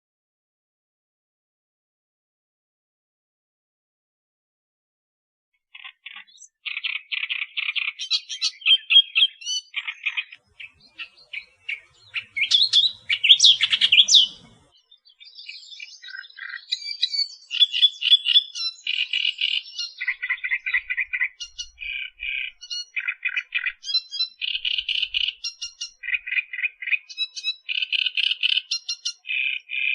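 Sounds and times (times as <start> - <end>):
reed warbler singing: 5.7 - 29.9.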